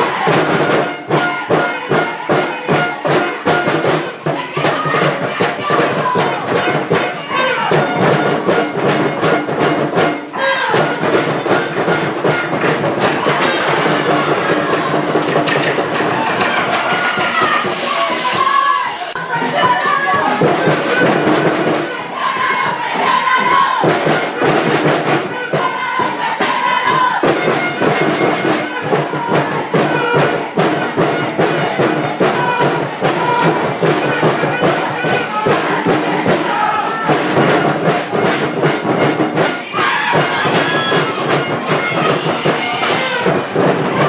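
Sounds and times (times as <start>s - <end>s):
crowd shouting and cheering: 0.0s - 44.0s
music with percussion hits: 0.0s - 44.0s.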